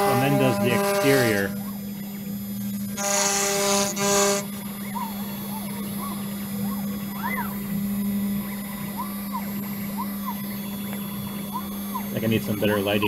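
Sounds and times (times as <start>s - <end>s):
motor whines: 0.0s - 13.0s
router spindle humming: 0.0s - 13.0s.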